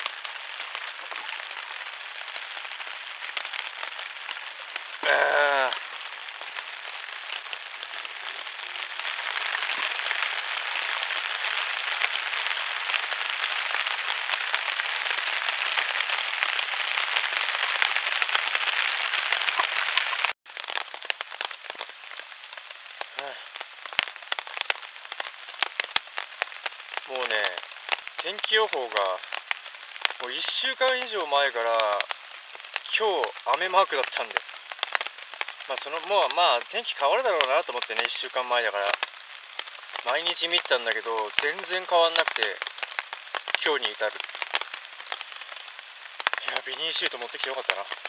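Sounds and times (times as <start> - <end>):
heavy rain falling: 0.0 - 48.0
sharp water drips: 0.0 - 48.0.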